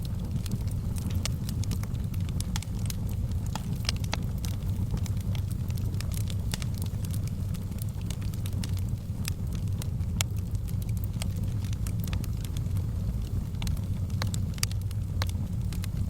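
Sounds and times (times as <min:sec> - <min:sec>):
fire low rumble: 0:00.0 - 0:16.0
wood fire crackling: 0:00.0 - 0:16.0.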